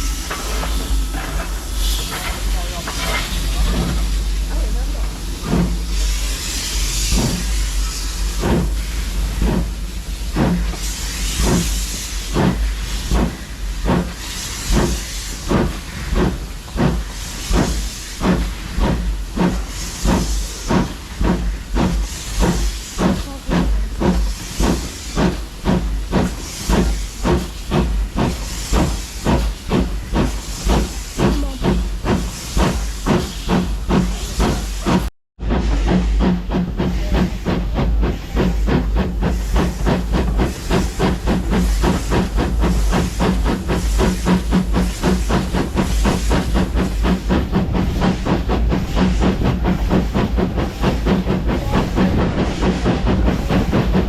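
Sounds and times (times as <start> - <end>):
hiss of steam: 0.0 - 54.0
steam locomotive chugging: 0.0 - 54.0.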